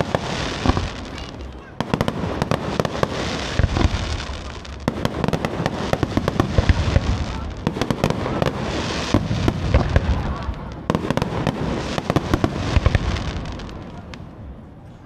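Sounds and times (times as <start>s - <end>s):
continuous hiss: 0.0s - 15.0s
fireworks bangs and crackles: 0.0s - 15.0s.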